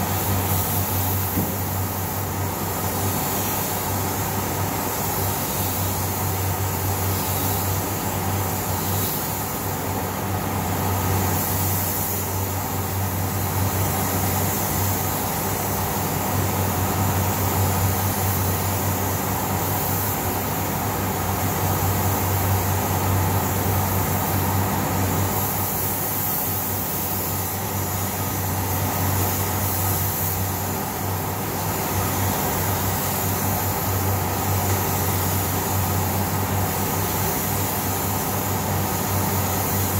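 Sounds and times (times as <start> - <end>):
low hum of air handling: 0.0 - 39.9
spray gun hissing: 0.0 - 39.9.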